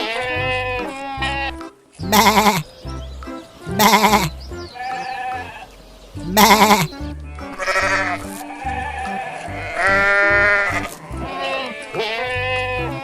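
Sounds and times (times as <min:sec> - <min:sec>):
sheep bleating: 0:00.0 - 0:02.7, 0:03.7 - 0:13.0
background music with low beat: 0:00.0 - 0:11.4.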